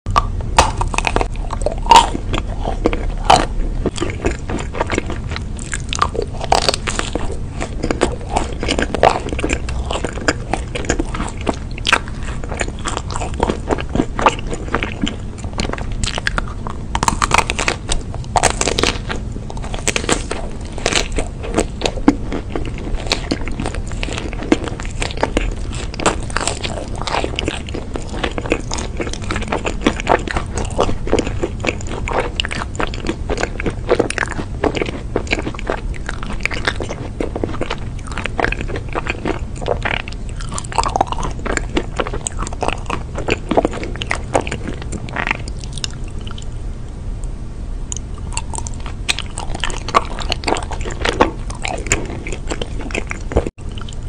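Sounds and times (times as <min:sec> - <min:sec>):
chocolate shell crunching: 0:00.1 - 0:46.5
wet chewing: 0:00.1 - 0:46.5, 0:47.9 - 0:54.0.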